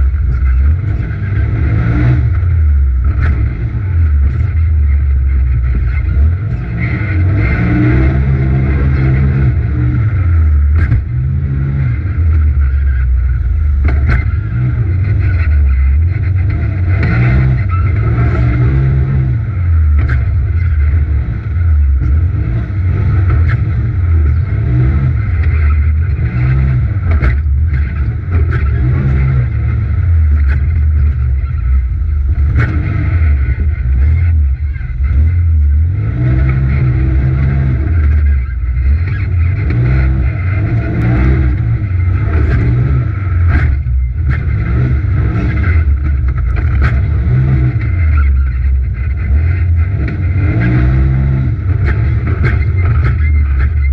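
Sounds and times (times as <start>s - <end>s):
turbocharged engine revving: 0.0s - 53.9s.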